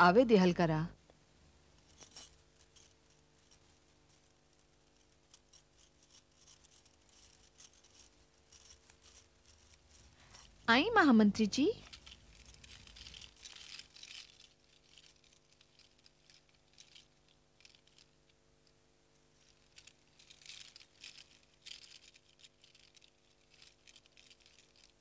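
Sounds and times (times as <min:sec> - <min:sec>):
faint steady hum: 0:00.0 - 0:25.0
metal ornaments jingling: 0:01.8 - 0:18.2, 0:19.1 - 0:25.0.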